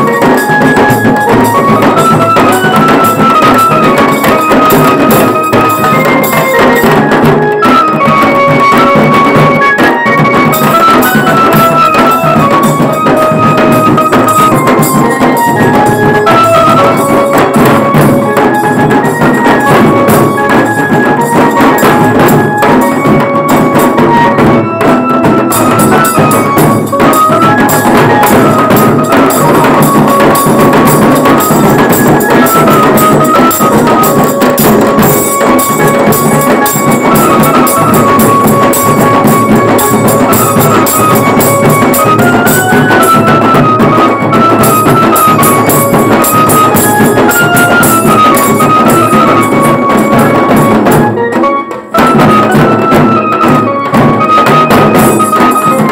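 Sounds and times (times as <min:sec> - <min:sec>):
band lead melody: 0:00.0 - 0:55.9
drums and cymbals: 0:00.0 - 0:55.9.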